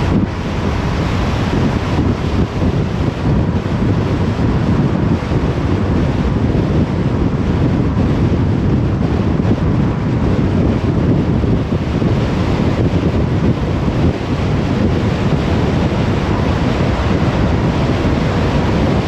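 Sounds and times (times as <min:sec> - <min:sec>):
car tyre roar and wind noise: 0:00.0 - 0:19.0.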